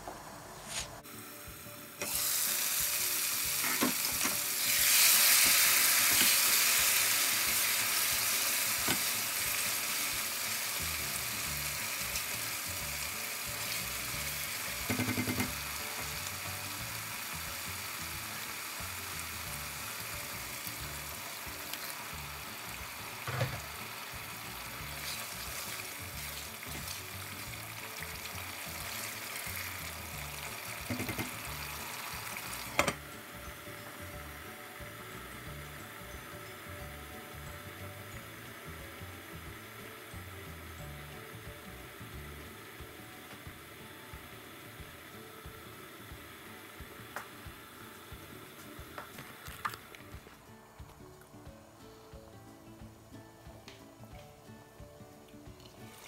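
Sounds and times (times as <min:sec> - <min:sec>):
meat sizzling in a pan: 0:01.0 - 0:50.2, 0:55.6 - 0:56.0.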